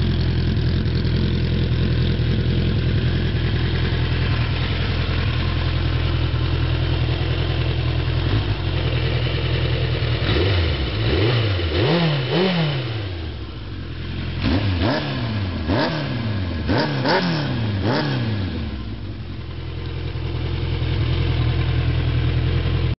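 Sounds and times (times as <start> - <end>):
motorcycle engine idling and revving: 0.0 - 22.9.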